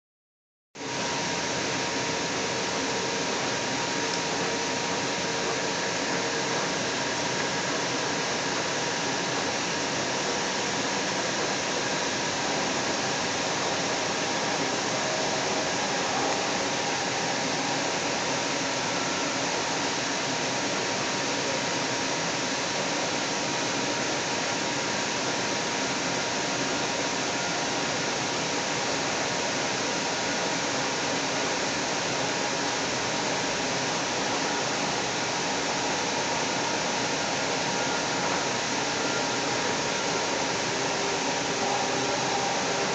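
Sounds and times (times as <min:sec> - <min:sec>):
faint steady whine: 0:00.8 - 0:42.9
train running noise: 0:01.0 - 0:42.9.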